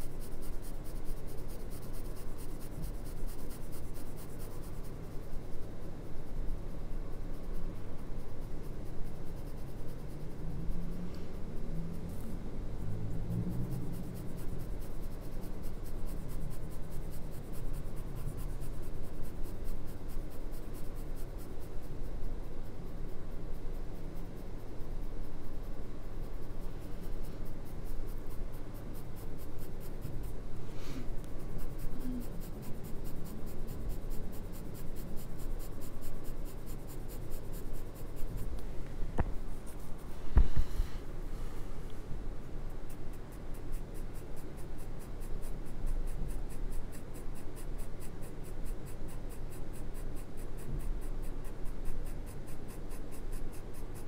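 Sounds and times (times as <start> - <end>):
pencil scratching on paper: 0.0 - 38.6, 39.4 - 40.1, 42.7 - 54.0.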